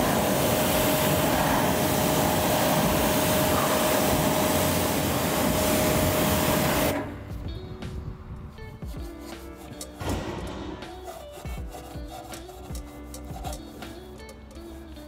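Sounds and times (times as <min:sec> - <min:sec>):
pressure washer spraying water: 0:00.0 - 0:07.2, 0:08.9 - 0:15.0.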